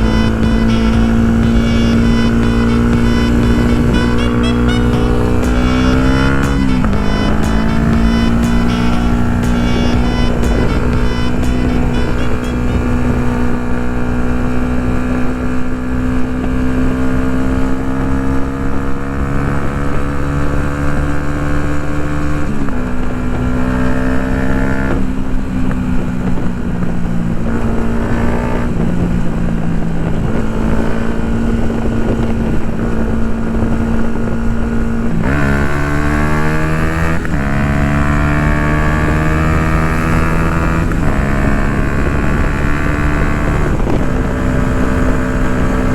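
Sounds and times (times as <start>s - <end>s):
motorcycle engine while riding: 0.0s - 45.9s.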